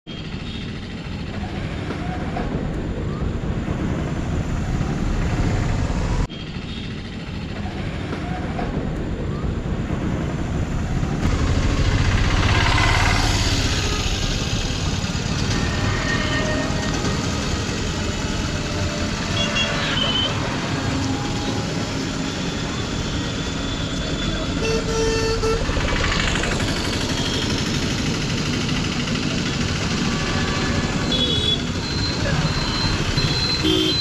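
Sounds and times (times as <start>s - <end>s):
traffic rumble: 0.1s - 34.0s.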